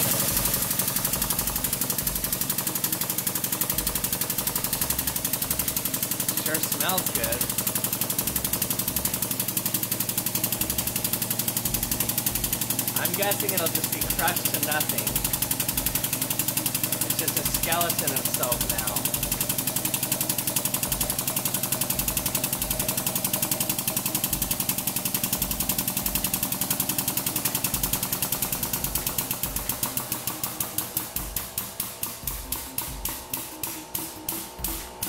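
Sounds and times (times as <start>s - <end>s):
hydraulic press pulsing: 0.0s - 35.0s.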